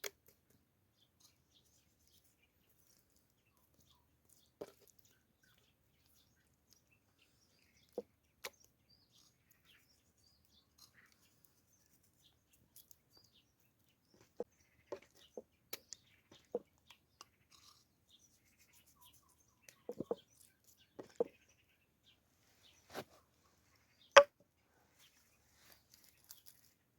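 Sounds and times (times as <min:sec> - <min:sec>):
birds chirping faintly: 0:00.0 - 0:26.9.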